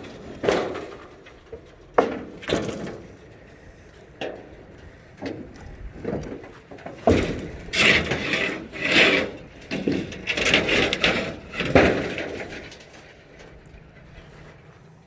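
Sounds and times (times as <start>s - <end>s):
lumber scraping and cracking: 0.0s - 14.9s.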